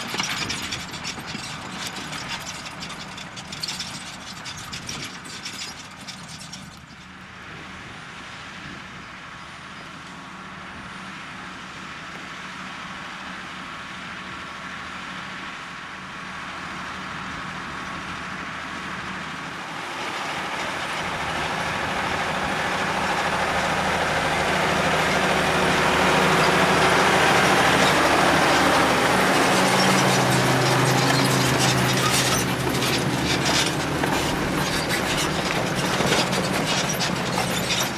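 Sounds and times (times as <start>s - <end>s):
tractor engine under load: 0.0s - 8.0s, 14.2s - 37.9s.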